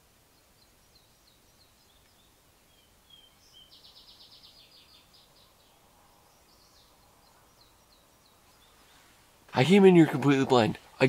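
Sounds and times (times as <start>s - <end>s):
faint songbirds chirping: 0.0s - 11.0s
outdoor hiss: 0.0s - 11.0s.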